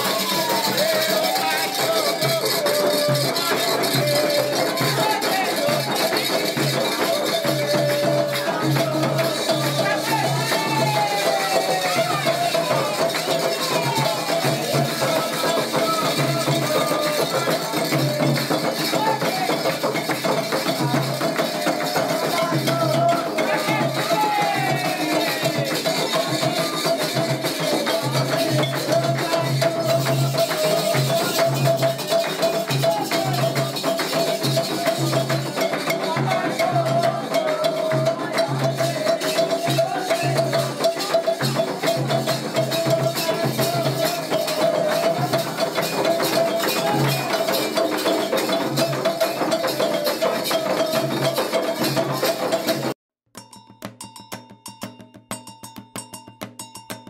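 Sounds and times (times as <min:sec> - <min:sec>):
sung chant: 0:00.0 - 0:52.9.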